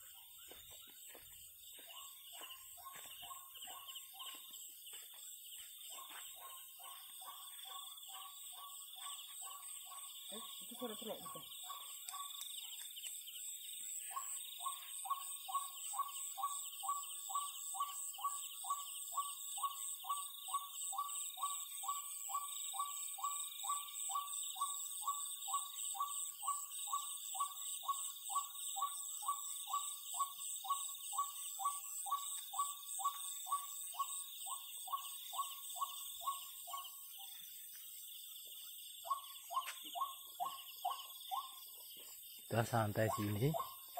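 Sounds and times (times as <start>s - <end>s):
night insects chirring: 0.0s - 43.9s.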